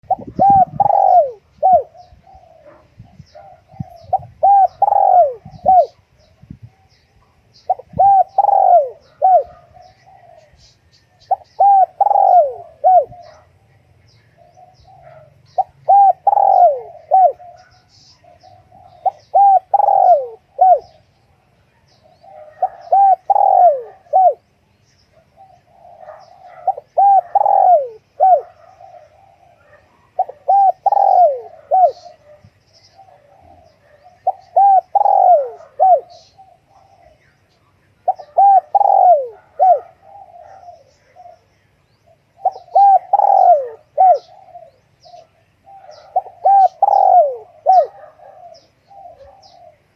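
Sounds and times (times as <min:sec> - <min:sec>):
dove cooing: 0:00.0 - 0:06.9, 0:07.5 - 0:13.6, 0:14.3 - 0:49.9.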